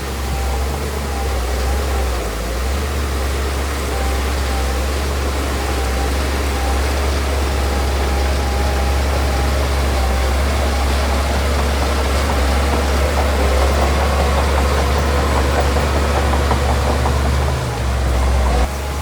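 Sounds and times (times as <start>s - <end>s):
heavy diesel engine rumbling: 0.0s - 19.0s
faint rapid ticking: 0.1s - 18.7s.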